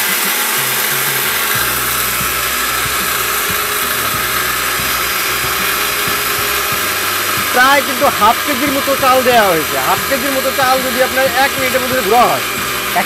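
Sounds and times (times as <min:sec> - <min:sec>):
mixer grinder grinding rice: 0:00.0 - 0:13.0.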